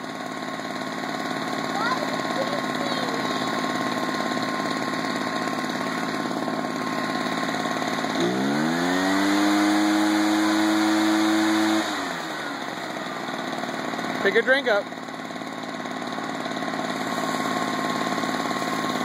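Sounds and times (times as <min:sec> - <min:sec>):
leaf blower engine revving: 0:00.0 - 0:19.0.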